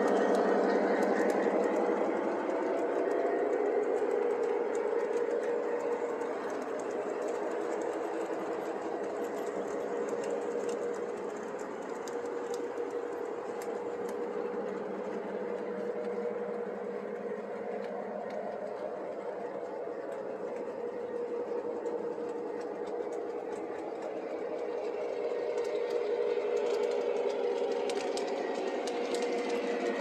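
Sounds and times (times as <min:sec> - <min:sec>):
model train motor whine: 0:00.0 - 0:30.0
wheels clicking on track: 0:00.0 - 0:30.0.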